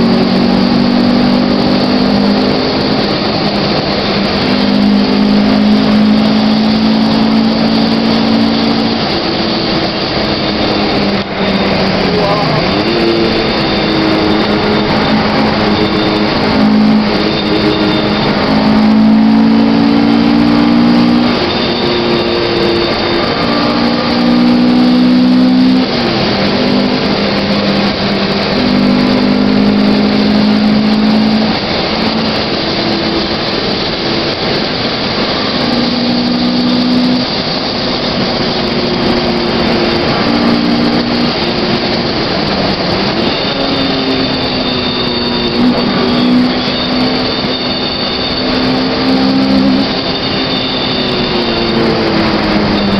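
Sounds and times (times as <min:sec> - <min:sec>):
car engine revving: 0:00.0 - 0:52.9
road and wind noise: 0:00.0 - 0:52.9.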